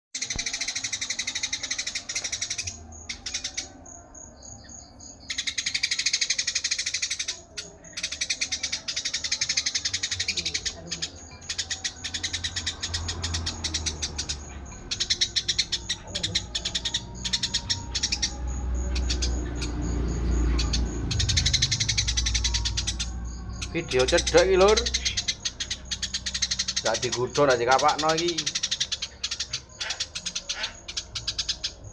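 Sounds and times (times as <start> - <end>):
sparrows chirping: 0.1 - 31.9.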